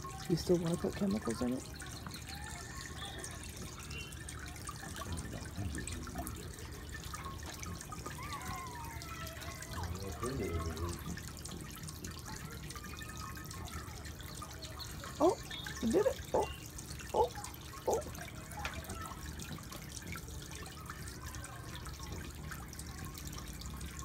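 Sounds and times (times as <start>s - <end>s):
fountain water splashing into basin: 0.0s - 24.0s.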